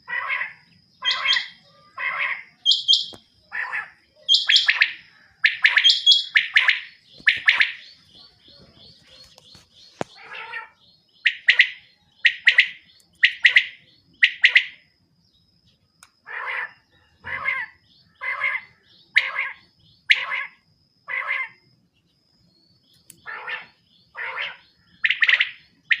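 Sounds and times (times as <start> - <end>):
quail calling: 0.0 - 14.9, 16.2 - 21.7, 23.1 - 26.0.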